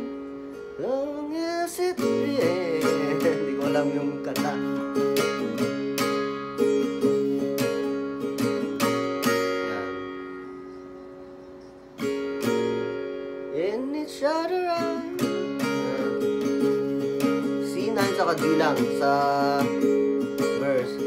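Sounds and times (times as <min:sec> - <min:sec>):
acoustic guitar strumming: 0:00.0 - 0:21.0
person singing: 0:00.7 - 0:21.0.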